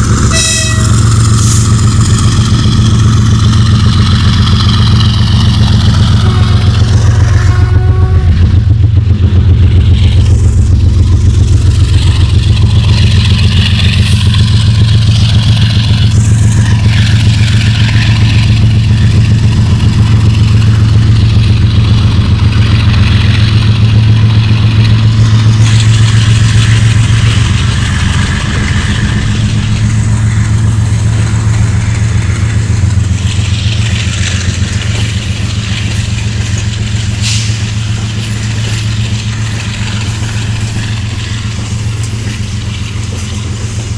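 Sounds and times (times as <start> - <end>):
diesel locomotive engine throbbing: 0.0 - 43.9.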